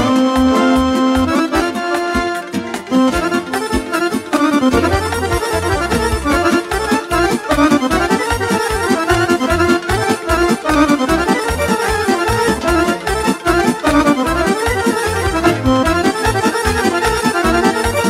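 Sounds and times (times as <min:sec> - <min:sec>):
accordion melody: 0:00.0 - 0:18.0
electronic keyboard accompaniment: 0:00.0 - 0:18.0.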